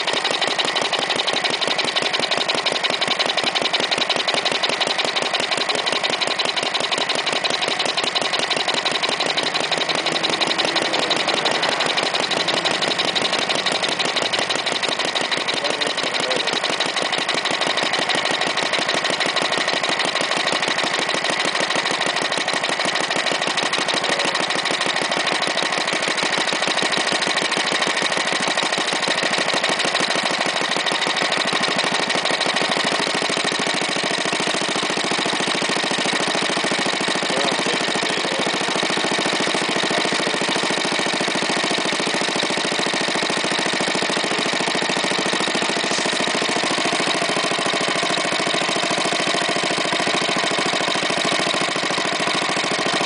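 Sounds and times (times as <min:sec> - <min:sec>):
single-cylinder engine running: 0:00.0 - 0:53.0.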